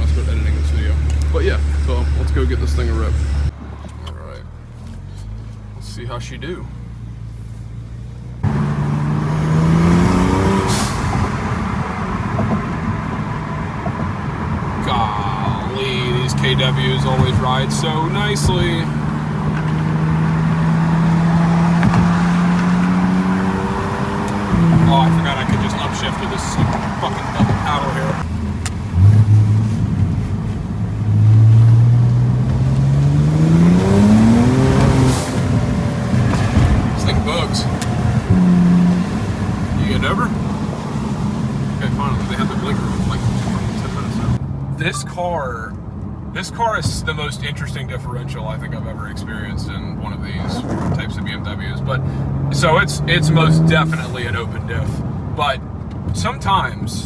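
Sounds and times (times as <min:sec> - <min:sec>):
car engine accelerating: 0:00.0 - 0:45.1, 0:46.4 - 0:57.0.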